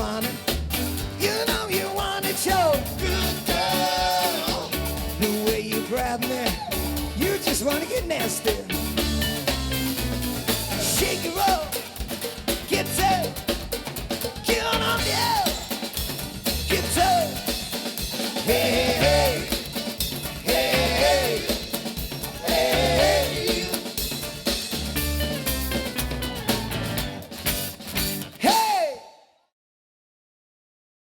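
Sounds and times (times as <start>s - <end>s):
drum kit beat: 0.0s - 28.9s.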